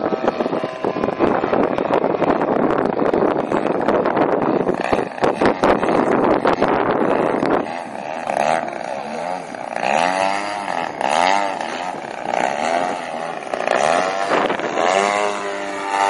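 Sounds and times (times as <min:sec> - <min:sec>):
model plane motor and propeller: 0:00.0 - 0:16.0
wind buffeting microphone: 0:00.0 - 0:16.0.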